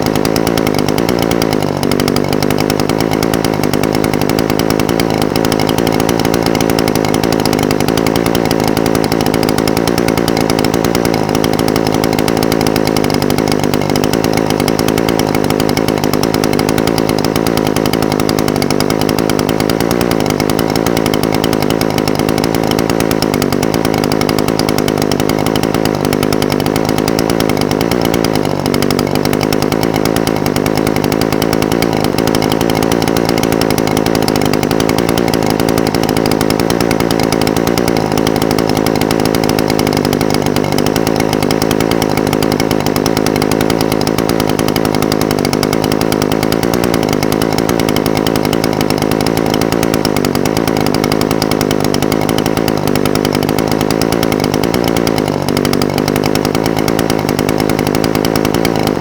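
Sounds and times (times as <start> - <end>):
brush cutter engine idling: 0.0 - 59.0.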